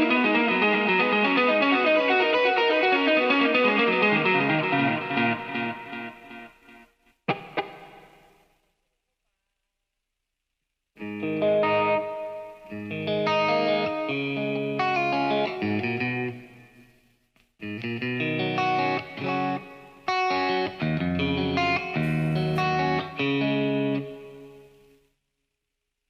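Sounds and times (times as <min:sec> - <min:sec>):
electric guitar playing: 0:00.0 - 0:08.5, 0:11.0 - 0:16.9, 0:17.6 - 0:24.9.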